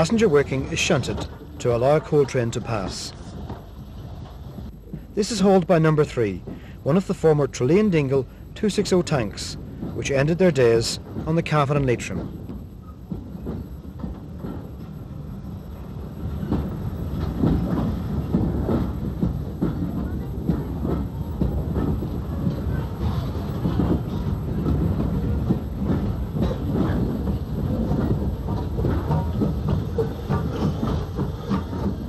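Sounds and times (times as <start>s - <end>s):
train wagons clattering over rails: 0.0s - 32.0s.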